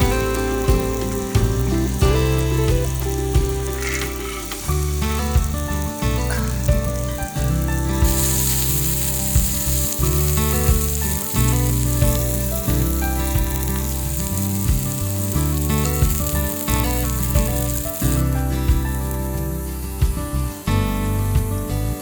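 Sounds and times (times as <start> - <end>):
background music with bass: 0.0 - 22.0
meat sizzling on grill: 0.0 - 22.0.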